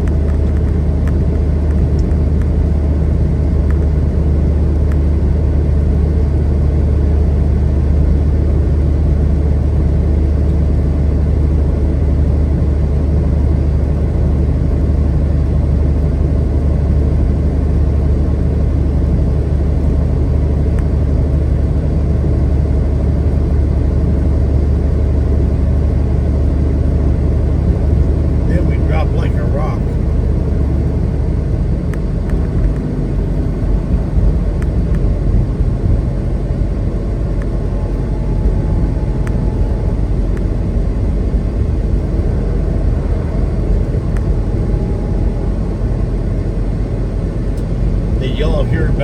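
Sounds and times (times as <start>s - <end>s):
truck engine and road noise: 0.0s - 49.0s.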